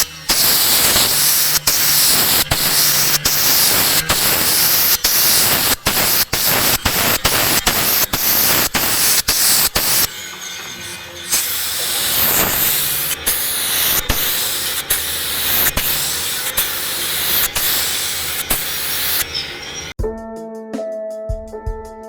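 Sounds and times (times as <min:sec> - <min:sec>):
spray gun hissing: 0:00.0 - 0:10.2, 0:11.2 - 0:20.0.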